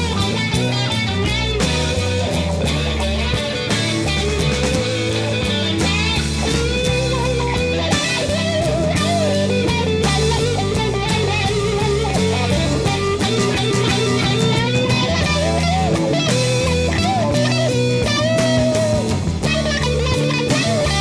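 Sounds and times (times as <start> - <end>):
bass and chord backing: 0.0 - 21.0
electric guitar solo: 0.0 - 21.0.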